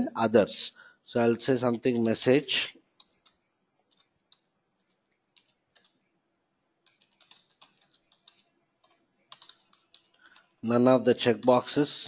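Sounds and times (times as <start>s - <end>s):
faint keyboard typing: 1.5s - 12.0s.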